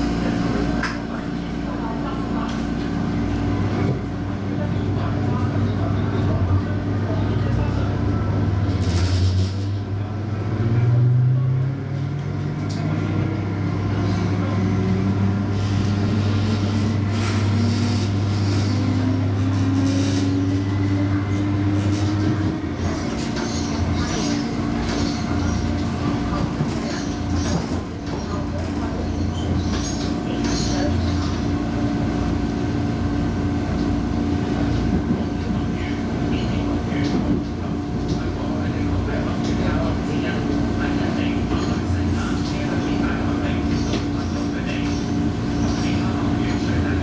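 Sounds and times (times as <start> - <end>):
electric train humming: 0.0 - 47.0.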